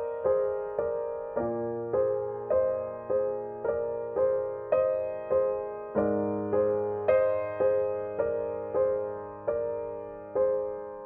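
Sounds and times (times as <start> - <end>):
gentle solo piano chords: 0.0 - 11.0.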